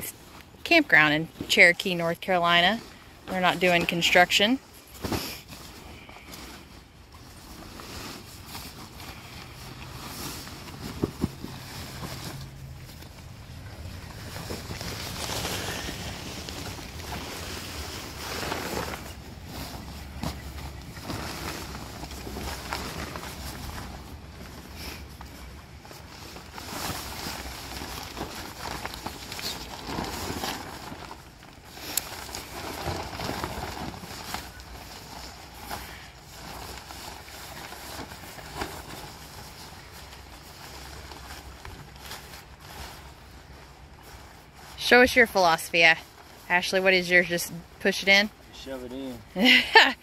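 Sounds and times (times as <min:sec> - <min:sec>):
tent fabric rustling and crumpling: 0:00.0 - 0:50.0.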